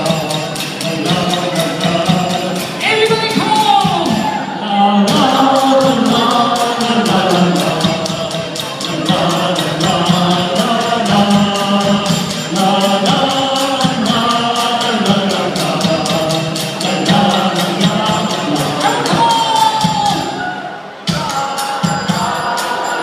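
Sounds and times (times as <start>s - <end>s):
fast percussion beat: 0.0s - 23.0s
group singing pop music: 0.0s - 23.0s.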